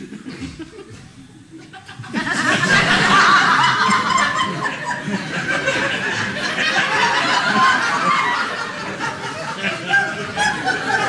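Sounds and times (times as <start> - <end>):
audience laughing loudly: 0.0 - 11.0.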